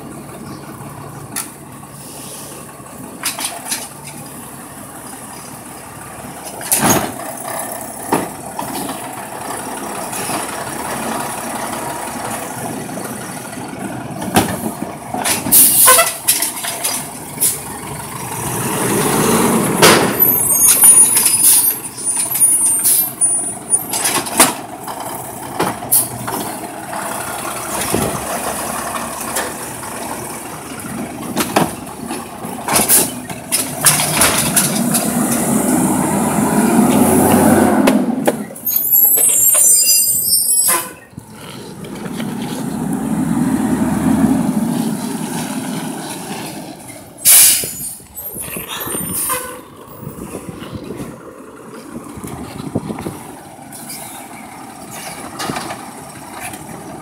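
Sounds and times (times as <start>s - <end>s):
garbage truck engine running: 0.0s - 57.0s
trash carts knocking and clanking: 3.0s - 4.4s, 6.2s - 42.9s, 44.1s - 57.0s.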